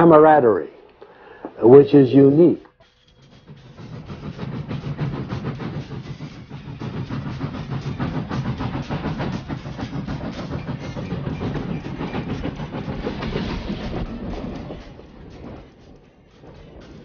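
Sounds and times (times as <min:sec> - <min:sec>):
steam locomotive chuffing: 0:02.0 - 0:17.0.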